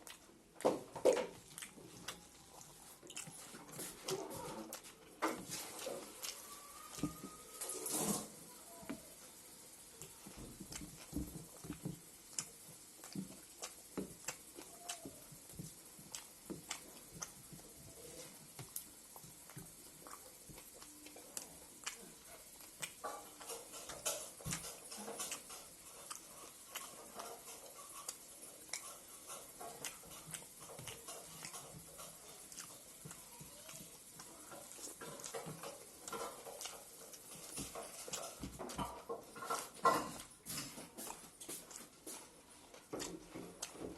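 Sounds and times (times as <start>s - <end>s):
chewing and lip smacking: 0.0s - 7.9s, 9.8s - 43.9s.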